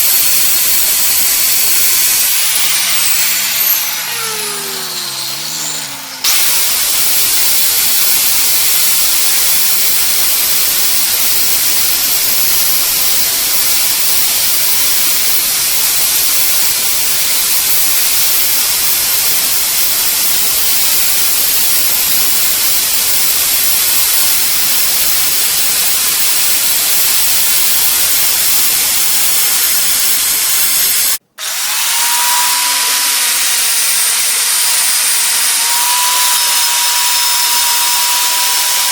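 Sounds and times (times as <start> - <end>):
steady whine: 0.0 - 31.2
welding arc crackling hiss: 0.0 - 31.2.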